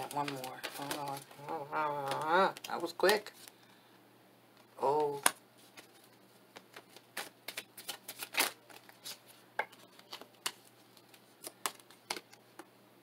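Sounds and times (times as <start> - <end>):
cards shuffling: 0.0 - 3.6, 4.9 - 12.4.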